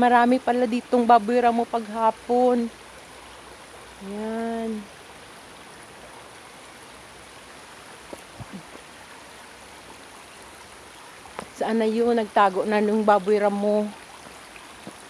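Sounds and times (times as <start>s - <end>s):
creek flowing over rocks: 0.0s - 15.0s.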